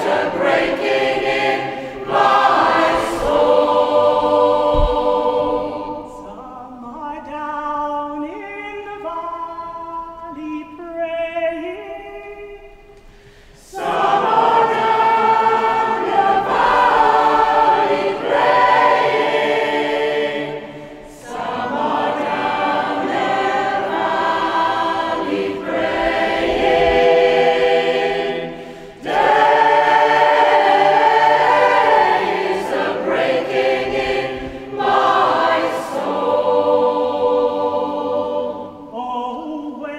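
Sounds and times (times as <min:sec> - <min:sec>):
choir singing a cappella: 0:00.0 - 0:12.5, 0:13.6 - 0:39.9.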